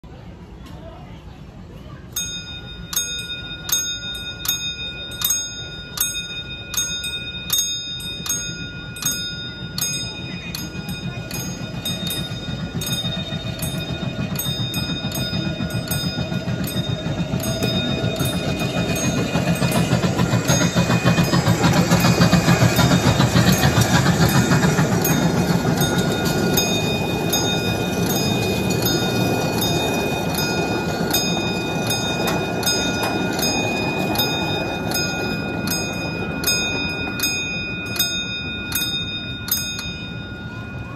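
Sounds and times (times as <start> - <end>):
miniature train rumbling: 0.0 - 40.9
railroad crossing bell ringing: 2.0 - 40.9.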